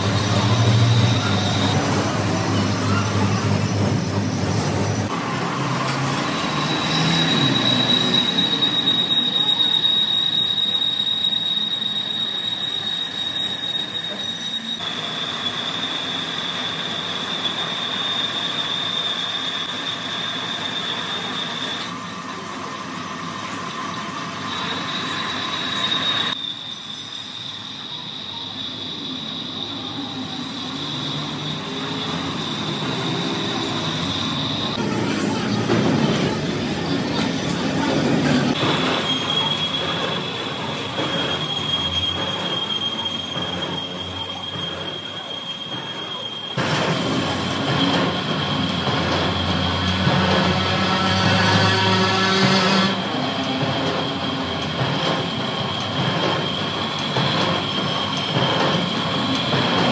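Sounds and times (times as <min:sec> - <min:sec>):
machinery squealing whine: 0:00.0 - 0:59.9.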